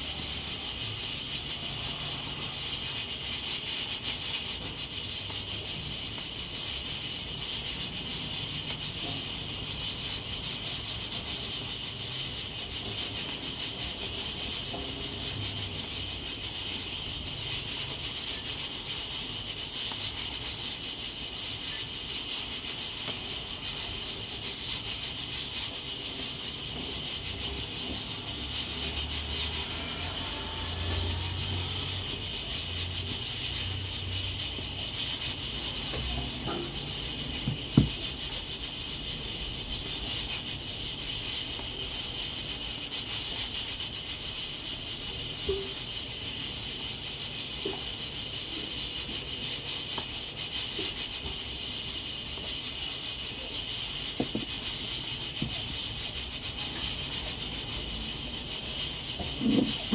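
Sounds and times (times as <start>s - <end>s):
pressure cooker hissing: 0.0s - 59.9s.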